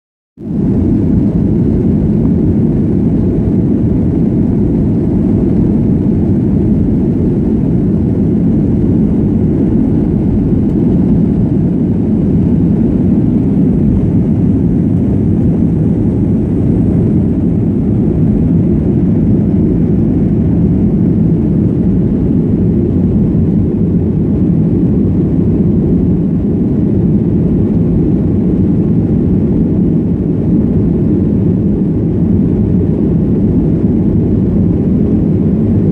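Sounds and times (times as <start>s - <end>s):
jet engine and airflow rumble: 0.4s - 35.9s.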